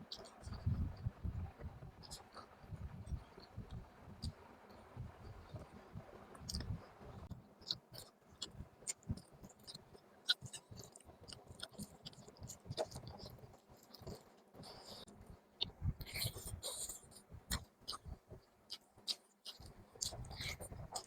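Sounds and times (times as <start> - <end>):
close chewing mouth sounds: 0.1 - 21.0.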